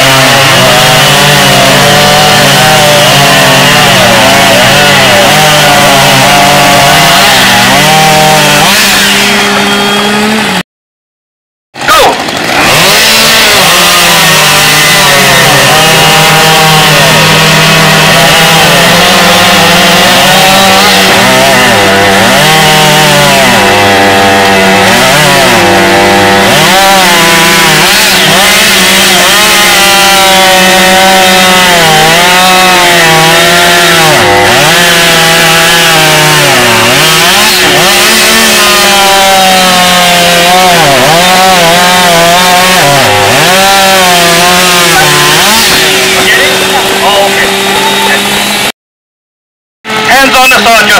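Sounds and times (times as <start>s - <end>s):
chainsaw cutting wood: 0.0s - 10.6s, 11.8s - 48.8s, 49.9s - 50.9s.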